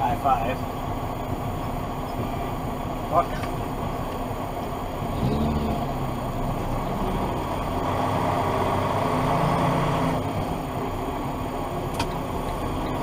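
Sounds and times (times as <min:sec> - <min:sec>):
car engine and road hum: 0:00.0 - 0:13.0.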